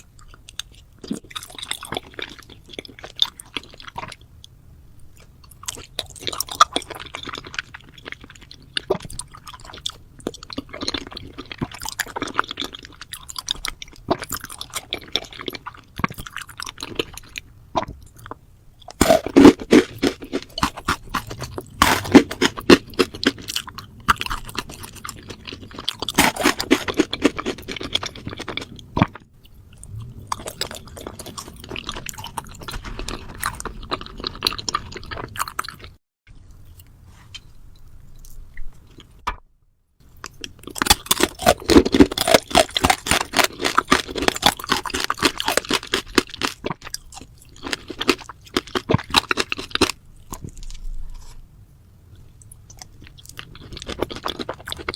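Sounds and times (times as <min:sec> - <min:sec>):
chewing and crunching food: 0:00.0 - 0:39.4, 0:40.0 - 0:54.9.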